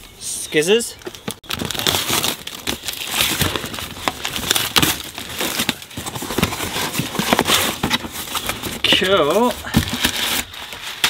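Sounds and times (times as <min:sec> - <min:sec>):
cardboard box torn open: 0:01.5 - 0:11.0.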